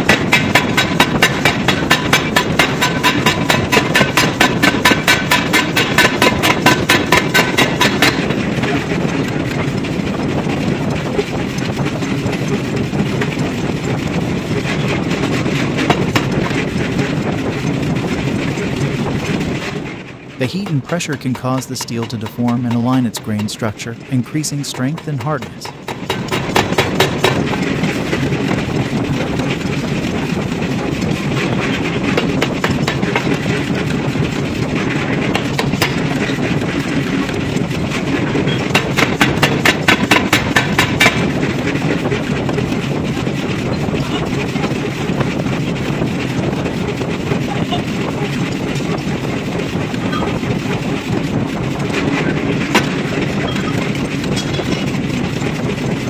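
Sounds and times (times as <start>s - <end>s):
forging hammer pounding: 0.0s - 56.0s
rapid hammer blows: 0.0s - 56.0s.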